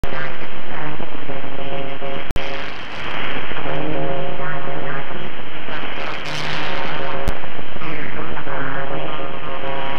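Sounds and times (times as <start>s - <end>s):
radio static hiss: 0.0s - 9.9s
radio tones jumping pitch: 0.0s - 9.9s.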